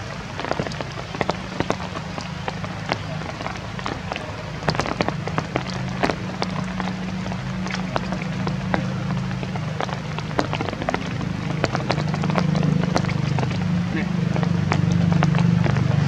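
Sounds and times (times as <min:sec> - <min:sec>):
steady low hum: 0:00.0 - 0:16.0
water dripping on leaves and stone: 0:00.0 - 0:16.0.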